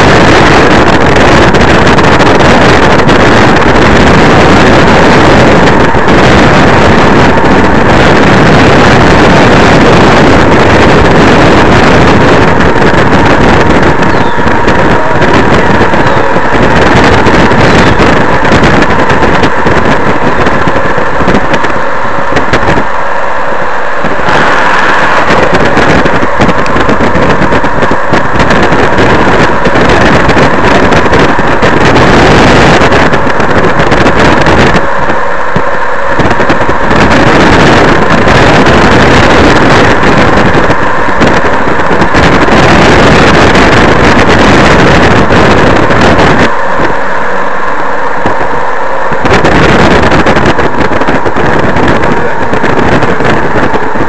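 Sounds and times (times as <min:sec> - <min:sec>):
faint steady tones: 0:00.0 - 0:54.0
train wheels rumbling on rails: 0:00.0 - 0:54.0.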